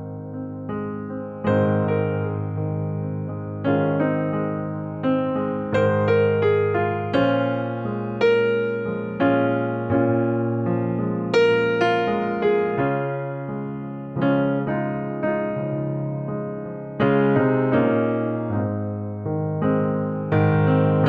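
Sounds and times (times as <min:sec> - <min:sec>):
slow piano-like keyboard music: 0:00.0 - 0:21.0.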